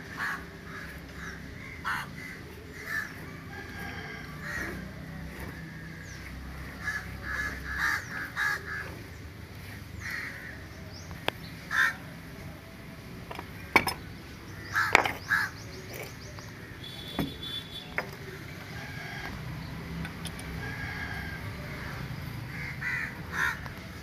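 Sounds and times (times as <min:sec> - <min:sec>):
birds calling: 0:00.0 - 0:24.0.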